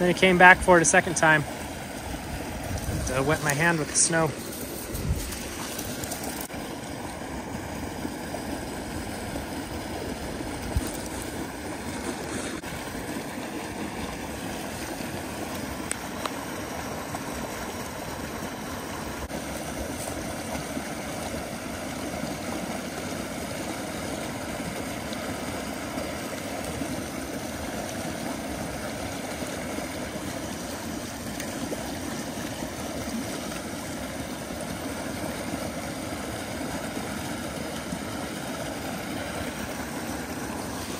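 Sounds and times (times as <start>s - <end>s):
creek running over riffle: 0.0s - 40.9s.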